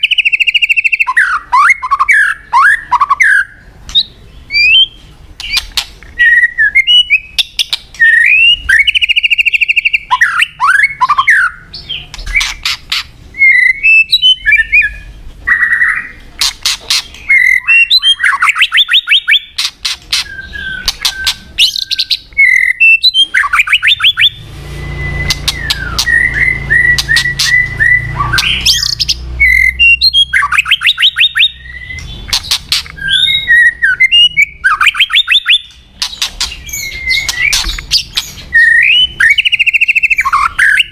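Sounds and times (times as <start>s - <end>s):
songbird singing whistles and trills: 0.0s - 40.9s.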